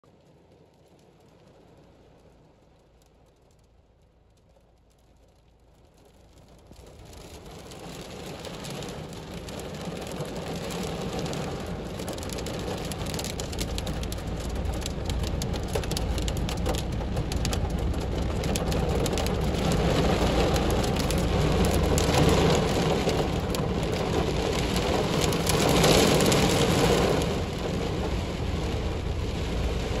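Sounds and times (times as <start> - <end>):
heavy rain drumming on car roof: 0.1 - 30.0.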